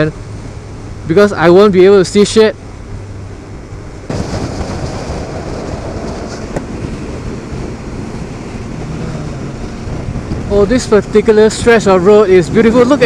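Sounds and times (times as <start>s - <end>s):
motorcycle engine hum: 0.0s - 13.0s
wind rushing over microphone: 2.5s - 13.0s.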